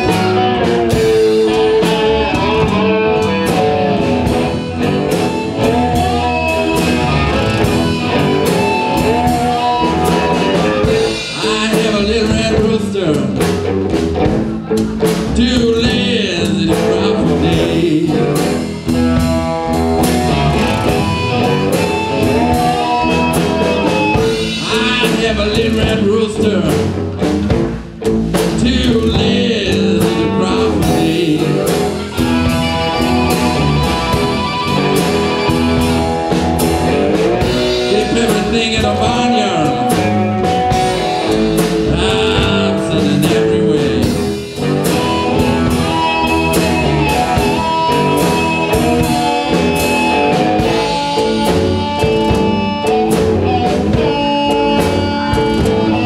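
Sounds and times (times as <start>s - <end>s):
amplified harmonica: 0.0s - 11.7s, 16.8s - 26.1s, 29.3s - 56.0s
drum kit beat: 0.0s - 56.0s
guitars playing: 0.0s - 56.0s.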